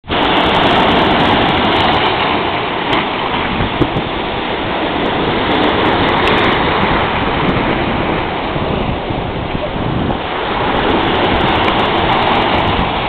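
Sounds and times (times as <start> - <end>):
surf breaking over rocks: 0.0 - 13.0.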